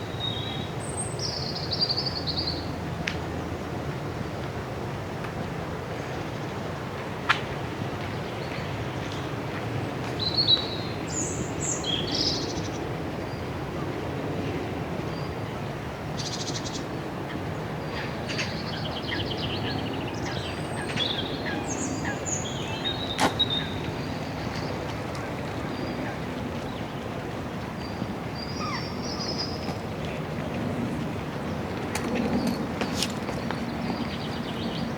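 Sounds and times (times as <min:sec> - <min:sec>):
distant city traffic rumble: 0:00.0 - 0:34.9.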